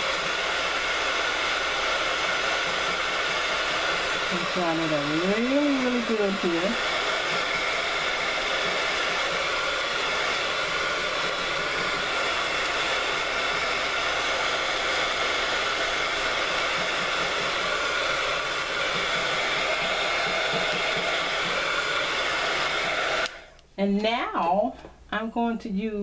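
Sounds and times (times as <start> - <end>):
heat gun blowing: 0.0 - 23.6.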